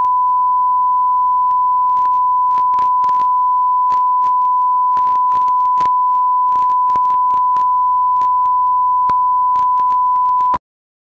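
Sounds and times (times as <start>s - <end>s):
tape crackle clicks: 1.5s - 10.6s.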